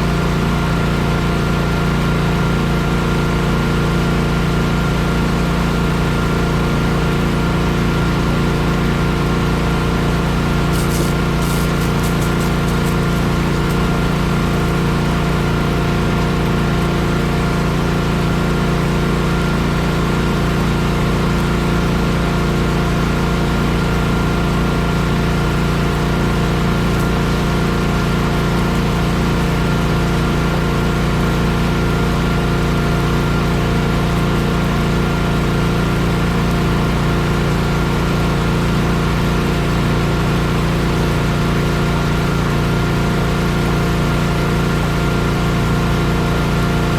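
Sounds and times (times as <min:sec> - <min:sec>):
paving machine engine running: 0:00.0 - 0:46.9.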